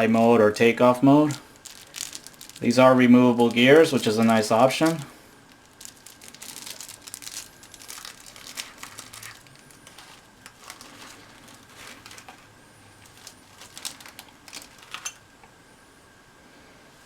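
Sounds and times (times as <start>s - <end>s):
plastic and foam crinkling: 0.5s - 15.2s.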